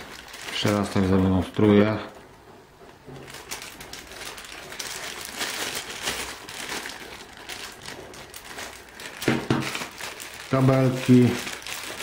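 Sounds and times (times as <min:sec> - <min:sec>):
plastic bag crinkling: 0:00.0 - 0:02.2, 0:03.0 - 0:12.0.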